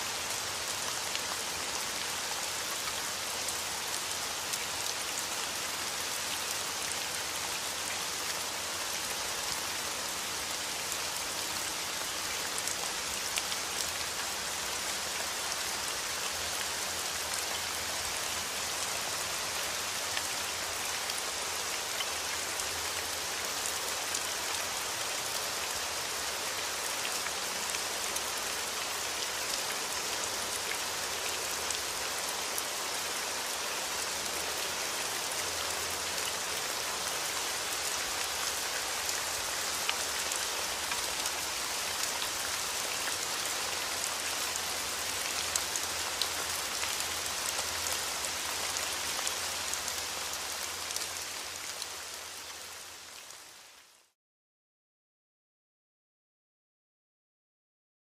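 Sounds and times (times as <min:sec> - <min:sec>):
heavy rain on leaves: 0:00.0 - 0:54.2.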